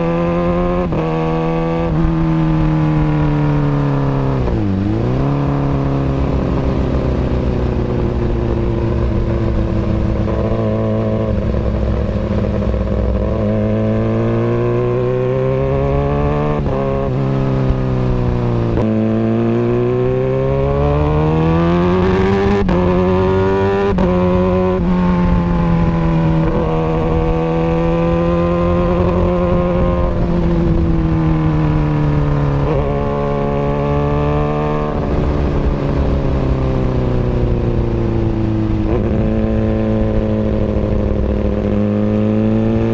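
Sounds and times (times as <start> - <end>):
motorcycle engine running loudly: 0.0 - 42.9.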